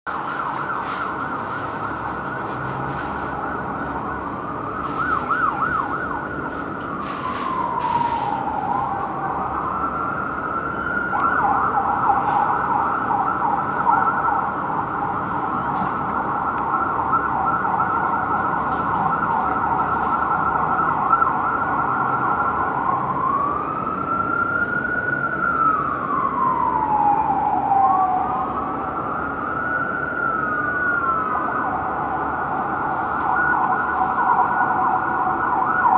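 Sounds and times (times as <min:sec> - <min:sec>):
emergency sirens wailing and yelping: 0:00.1 - 0:35.9.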